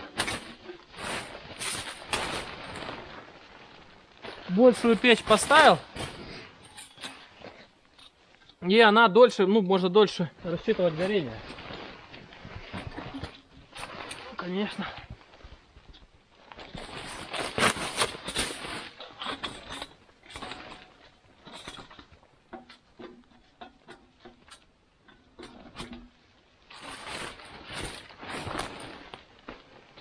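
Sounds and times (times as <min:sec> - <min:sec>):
rustling and scraping handling: 0:00.0 - 0:30.0.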